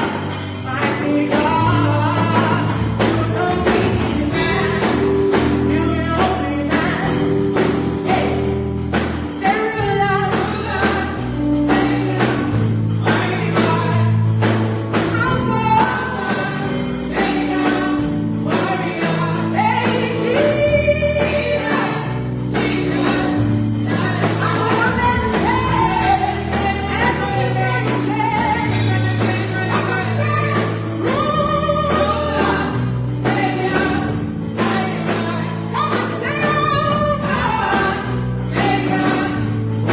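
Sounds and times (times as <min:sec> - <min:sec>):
band with bass and drums: 0:00.0 - 0:39.9
choir singing gospel: 0:00.0 - 0:39.9.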